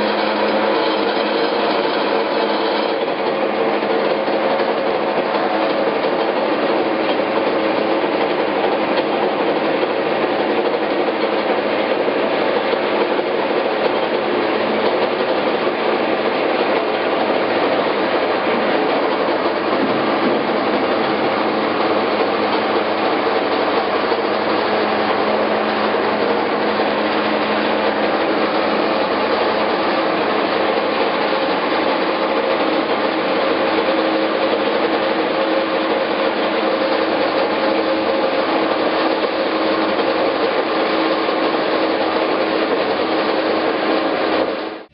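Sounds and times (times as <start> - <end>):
bandsaw whirring and rattling: 0.0 - 44.8.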